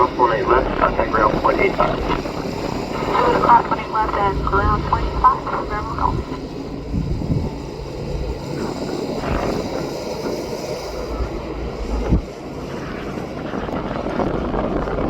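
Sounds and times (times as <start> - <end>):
jet engine rumble: 0.0 - 15.0
wind buffeting microphone: 0.0 - 15.0.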